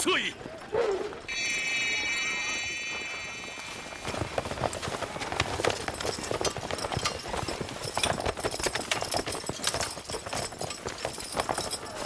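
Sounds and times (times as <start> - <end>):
horses galloping hoofbeats: 0.0 - 12.0.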